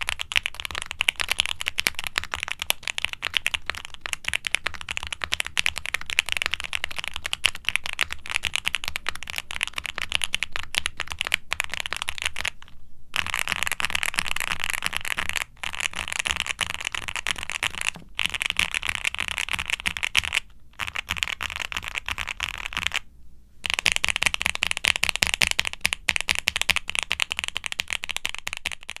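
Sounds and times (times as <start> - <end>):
fast typing on mechanical keyboard: 0.0 - 23.0, 23.7 - 29.0.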